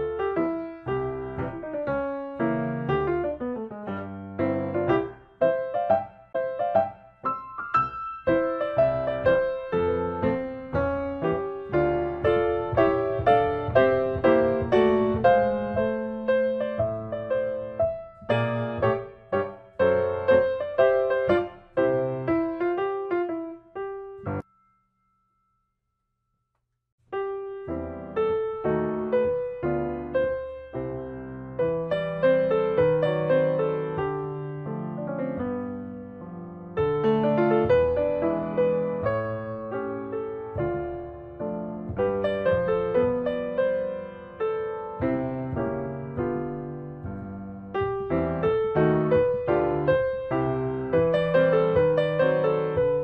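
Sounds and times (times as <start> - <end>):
piano music: 0.0 - 25.3, 27.1 - 53.0.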